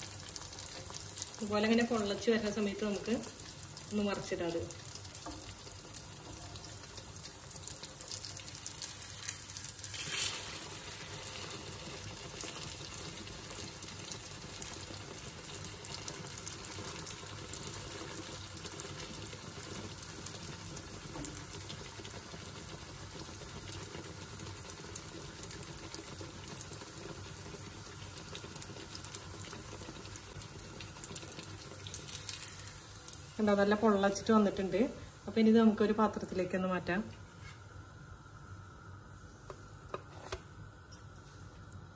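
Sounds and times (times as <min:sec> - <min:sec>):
batter sizzling in hot oil: 0:00.0 - 0:39.8.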